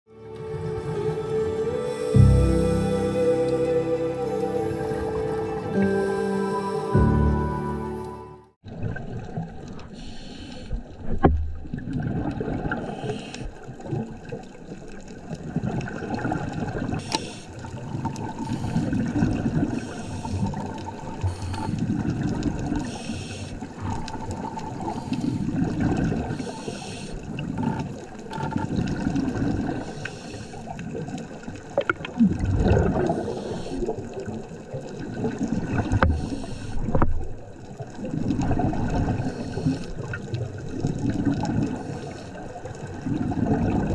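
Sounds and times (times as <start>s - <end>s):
underwater exhaust bubbles gurgling: 8.6s - 43.9s.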